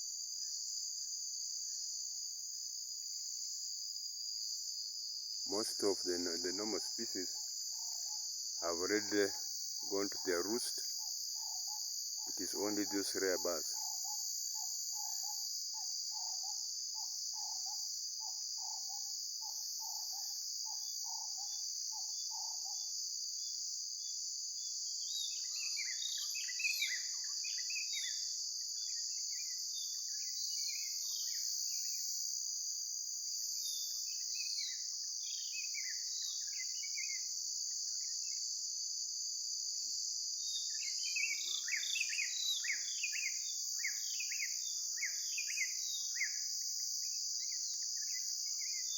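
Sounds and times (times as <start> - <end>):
crickets and insects trilling: 0.0 - 48.9.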